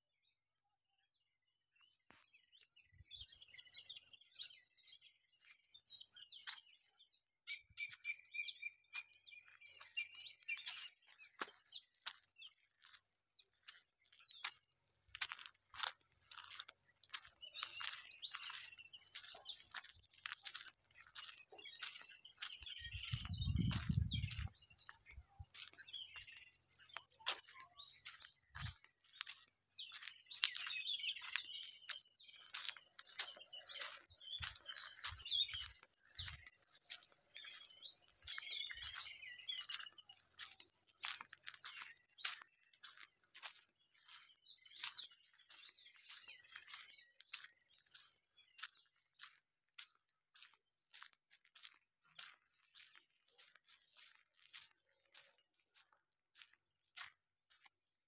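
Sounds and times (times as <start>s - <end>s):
birds chirping: 1.9s - 57.1s.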